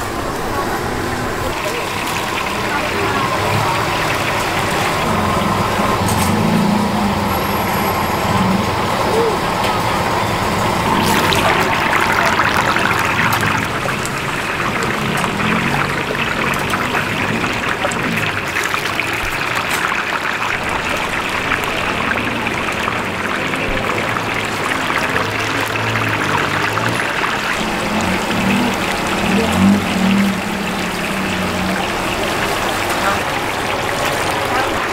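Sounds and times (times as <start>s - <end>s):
food deep-frying in hot oil: 1.5s - 34.9s.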